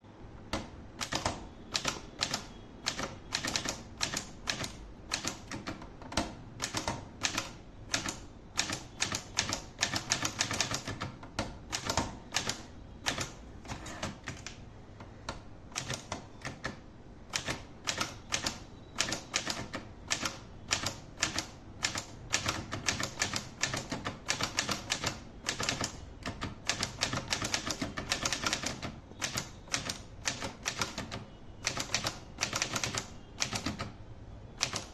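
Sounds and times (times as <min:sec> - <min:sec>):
manual typewriter key strikes: 0:00.5 - 0:14.6, 0:15.2 - 0:34.0, 0:34.6 - 0:34.9.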